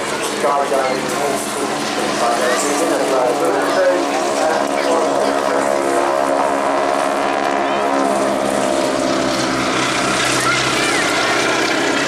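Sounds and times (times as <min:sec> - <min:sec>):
propeller aircraft droning: 0:00.0 - 0:12.0.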